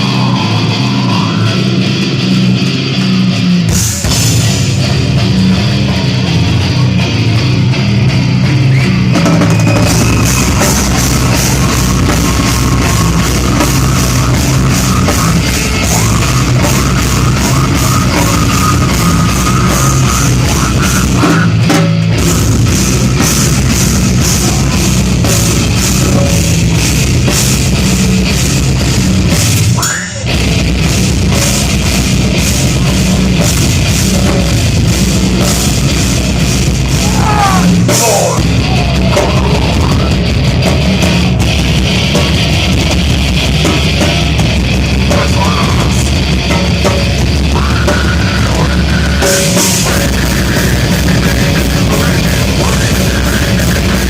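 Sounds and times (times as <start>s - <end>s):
distorted guitars and bass: 0.0s - 54.0s
fast dense drumming: 0.0s - 54.0s.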